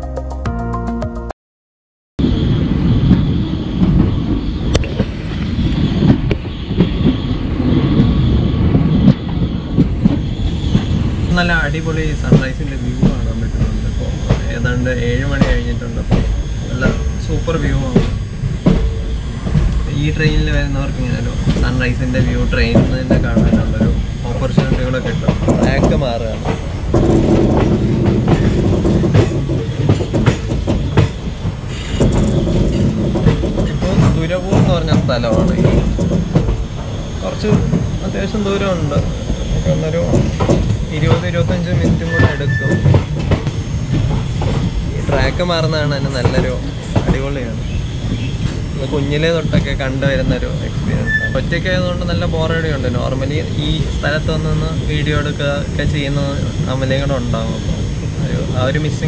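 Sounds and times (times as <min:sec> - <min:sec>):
train wheels rumbling on rails: 0:02.2 - 0:59.0
rail joint clacks: 0:03.0 - 0:59.0.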